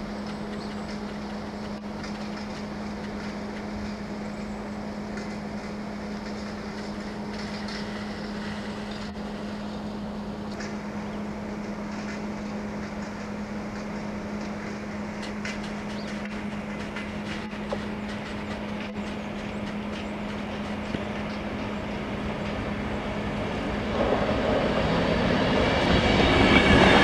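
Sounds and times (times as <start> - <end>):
steady low hum: 0.0 - 26.8
electric train pulling in: 0.0 - 27.0.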